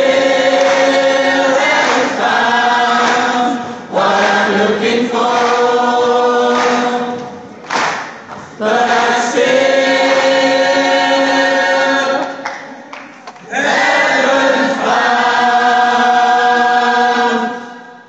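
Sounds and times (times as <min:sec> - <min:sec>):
choir singing held chords: 0:00.0 - 0:07.7, 0:08.4 - 0:12.5, 0:13.4 - 0:18.0.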